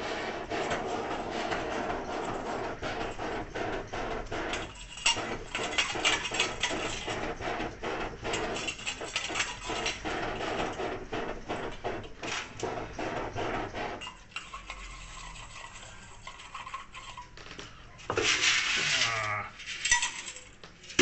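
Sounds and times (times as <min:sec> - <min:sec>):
scraping strokes on copper pot: 0:00.0 - 0:17.4.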